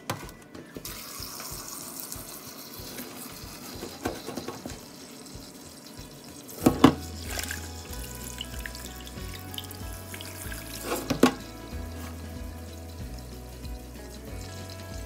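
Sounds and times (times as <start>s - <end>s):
tap water running into saucepan: 0.8s - 15.0s.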